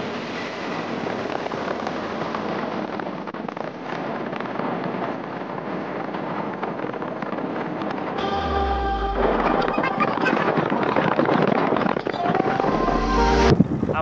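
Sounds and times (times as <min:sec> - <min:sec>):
wind and road noise: 0:00.0 - 0:08.3, 0:09.6 - 0:14.0.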